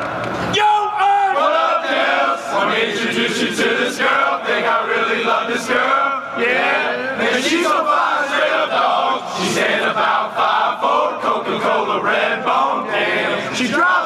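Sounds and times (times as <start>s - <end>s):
men chanting together: 1.3s - 14.0s.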